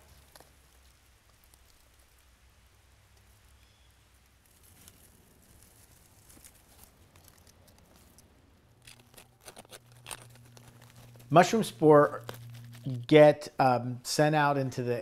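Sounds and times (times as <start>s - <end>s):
faint rustling: 0.0s - 13.1s.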